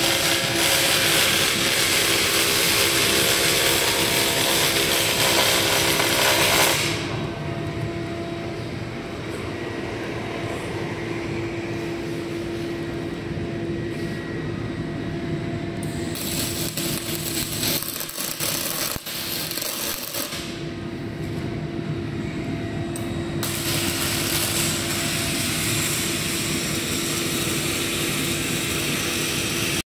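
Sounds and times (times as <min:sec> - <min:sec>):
welding machine hum: 0:00.0 - 0:29.8.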